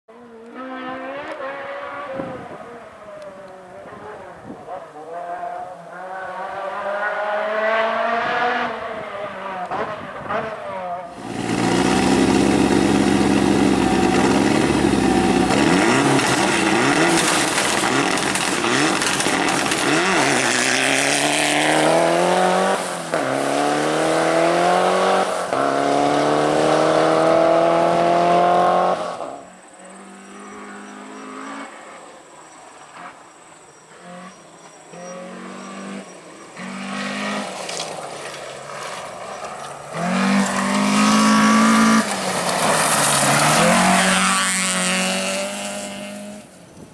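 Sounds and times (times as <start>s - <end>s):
rally car engine at full throttle: 0.1s - 46.6s.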